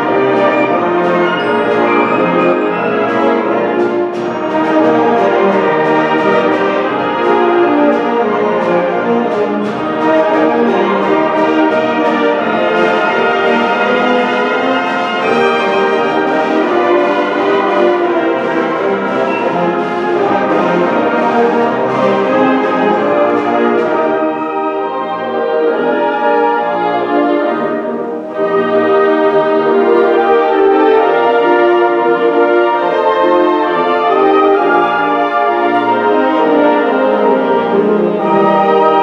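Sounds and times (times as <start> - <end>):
wind ensemble playing brass chords: 0.0 - 39.0.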